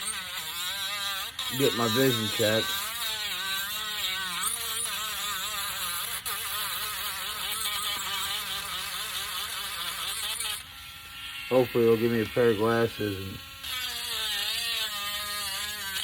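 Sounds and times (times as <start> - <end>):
electric sander whining buzz: 0.0 - 16.0.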